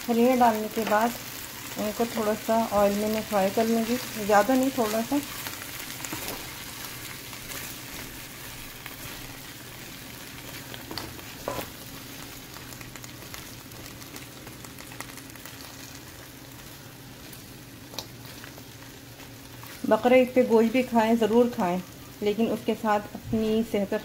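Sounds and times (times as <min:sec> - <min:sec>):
beans sizzling in oil: 0:00.0 - 0:24.0
steady low hum: 0:00.0 - 0:24.0.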